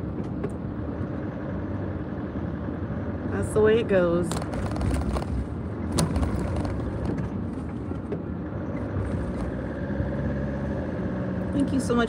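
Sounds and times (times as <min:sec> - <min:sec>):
car road and engine noise: 0:00.0 - 0:12.0
truck engine hum: 0:00.0 - 0:12.0.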